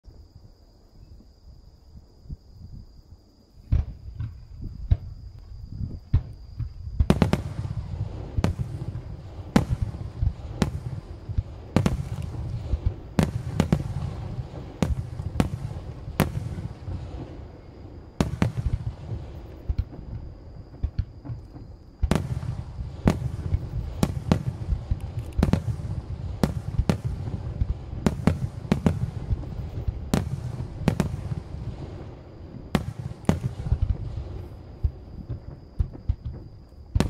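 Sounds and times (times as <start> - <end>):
low rumble and crackle: 3.7 - 37.0.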